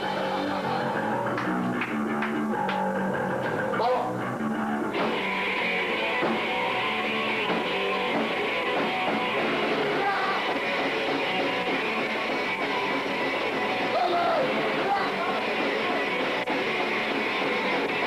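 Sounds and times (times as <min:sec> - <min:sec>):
drum kit: 0:00.0 - 0:18.0
electric guitar: 0:00.0 - 0:18.0.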